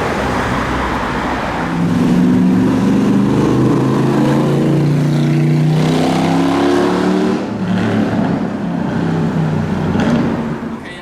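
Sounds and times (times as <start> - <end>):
car engine accelerating: 1.5 - 10.7.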